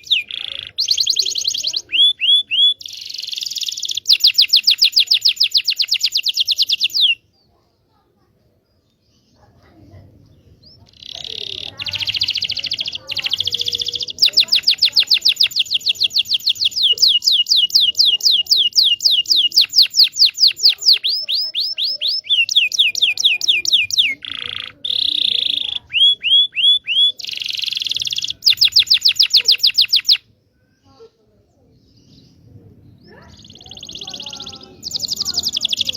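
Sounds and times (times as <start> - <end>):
canary singing: 0.0 - 7.4, 9.0 - 31.0, 31.8 - 35.9.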